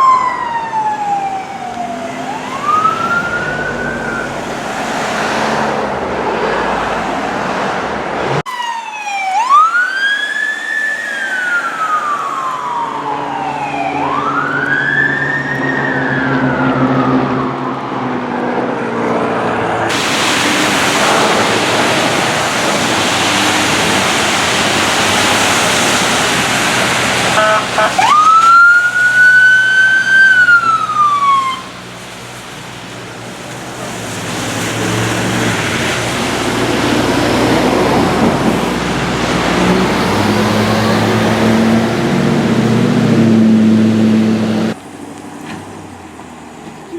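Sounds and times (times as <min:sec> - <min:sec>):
fire truck siren wailing: 0:00.0 - 0:05.4, 0:08.4 - 0:44.8
truck engine rumble: 0:00.0 - 0:08.5, 0:10.4 - 0:46.9
truck passing rush of noise: 0:00.0 - 0:46.9.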